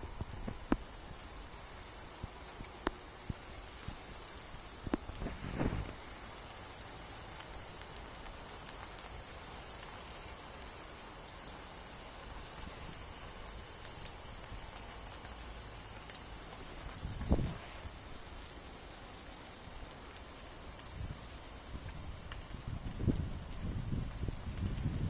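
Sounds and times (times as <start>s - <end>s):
crackling pops: 0.0s - 25.0s
meat sizzling on a griddle: 0.0s - 25.0s.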